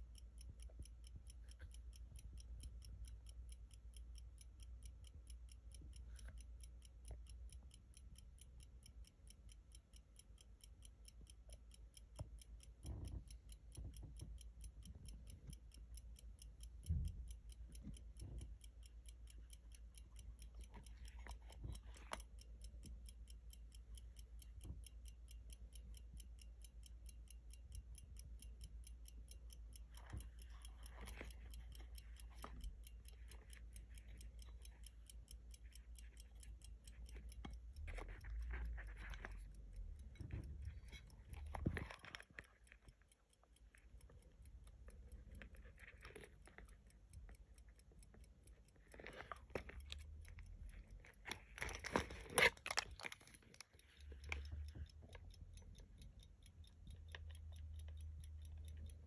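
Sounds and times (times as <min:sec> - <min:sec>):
pocket watch ticking: 0:00.0 - 0:59.0.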